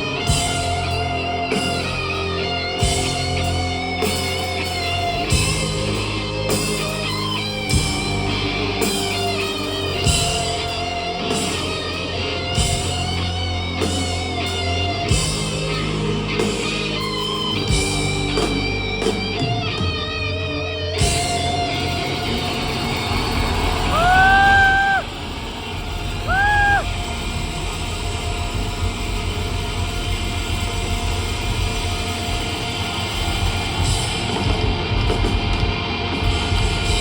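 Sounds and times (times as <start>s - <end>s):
rock band playing: 0.0s - 37.0s.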